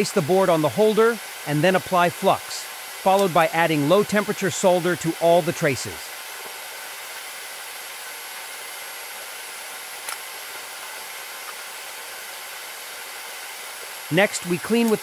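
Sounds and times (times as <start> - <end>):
steady airy hiss: 0.0 - 15.0.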